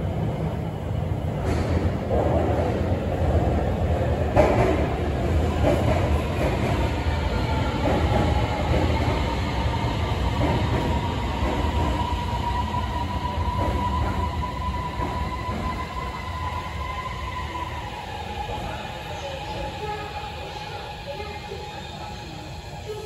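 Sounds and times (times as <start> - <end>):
train rumbling to a stop: 0.0 - 23.0.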